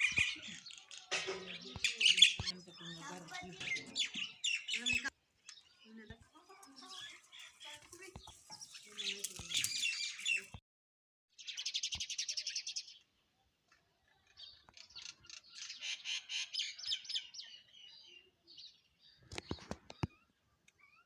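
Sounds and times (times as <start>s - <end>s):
small songbirds chirping: 0.0s - 10.6s, 11.3s - 21.0s.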